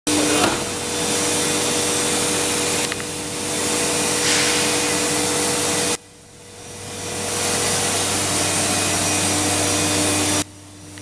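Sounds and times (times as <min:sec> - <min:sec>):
steady hum tones: 0:00.1 - 0:11.0.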